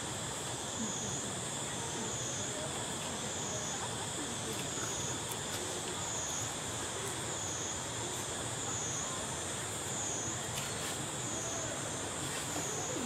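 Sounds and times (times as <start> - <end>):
background hiss: 0.0 - 13.0
insects buzzing: 0.0 - 13.0.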